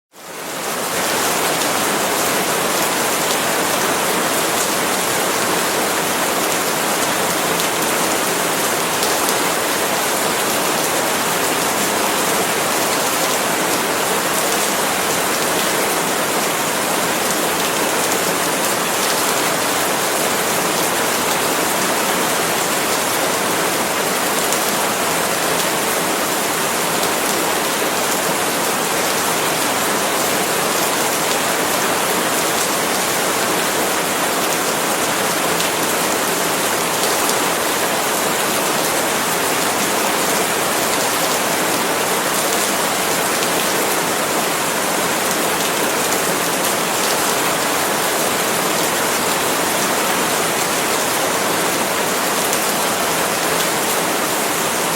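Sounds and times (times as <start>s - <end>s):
heavy rain on palm leaves: 0.1s - 54.9s.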